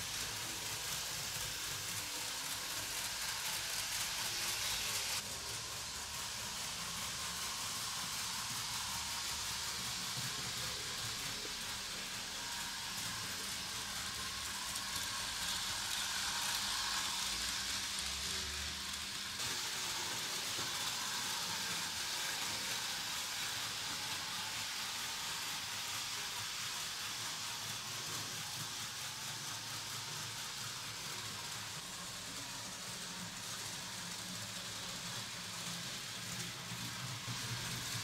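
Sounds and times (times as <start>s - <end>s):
model train wheels rolling on rails: 0.0s - 38.0s.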